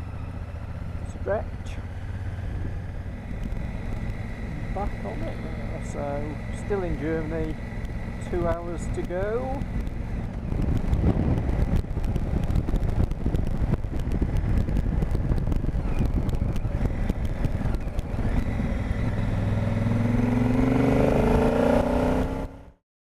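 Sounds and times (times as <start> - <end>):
motorcycle engine running: 0.0 - 22.8
wind buffeting camera: 0.8 - 22.6.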